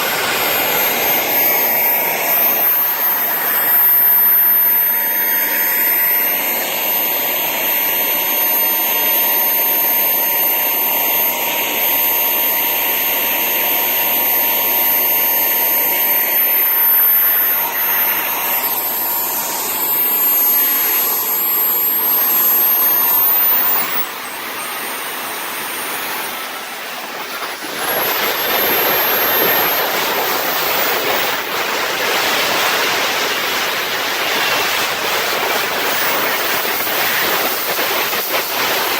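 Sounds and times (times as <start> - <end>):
jet turbine rushing blast: 0.0 - 38.9.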